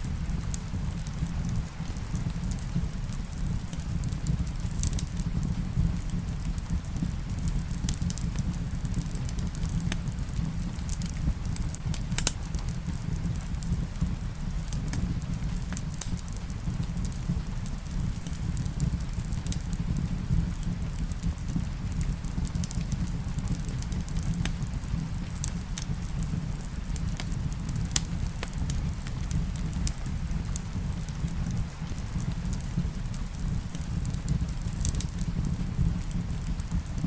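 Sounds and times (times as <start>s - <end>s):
rain: 0.0s - 37.0s
wood fire crackling: 0.0s - 37.0s.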